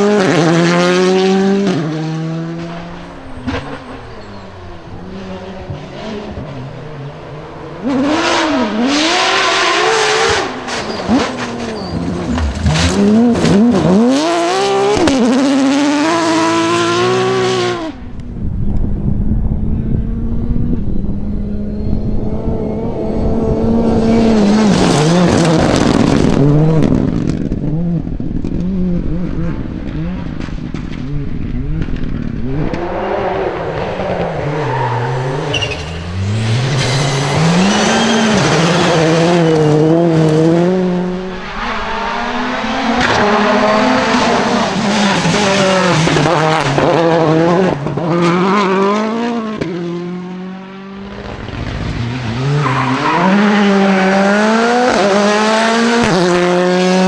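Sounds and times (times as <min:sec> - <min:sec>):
rally car engine revving: 0:00.0 - 0:18.4, 0:19.2 - 0:57.0
turbocharged rally cars accelerating: 0:00.0 - 0:57.0.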